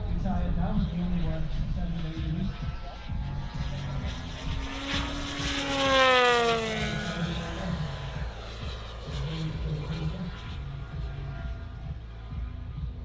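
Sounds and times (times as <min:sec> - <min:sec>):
model plane propeller engine passing: 0:00.8 - 0:12.7.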